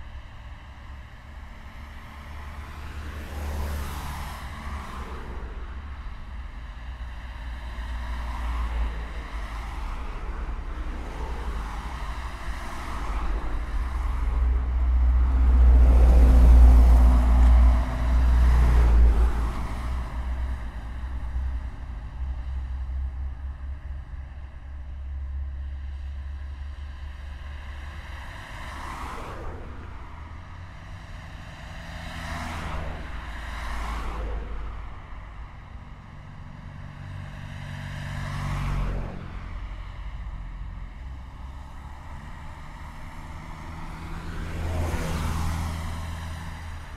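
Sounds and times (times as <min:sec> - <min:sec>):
cars passing close by: 0:00.0 - 0:46.9
low rumble of traffic: 0:00.0 - 0:46.9.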